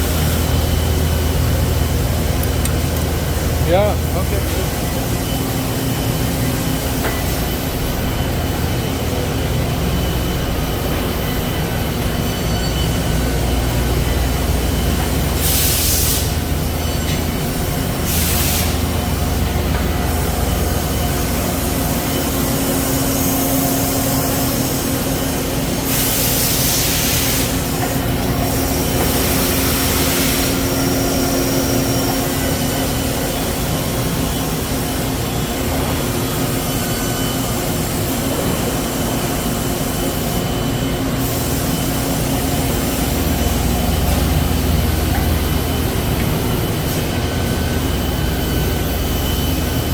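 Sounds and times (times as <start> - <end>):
lathe machine hum: 0.0 - 49.9.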